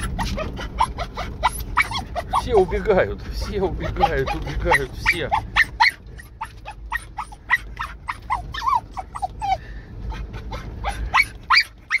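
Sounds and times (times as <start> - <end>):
car rumble: 0.0 - 12.0
dog whining and yipping: 0.0 - 12.0.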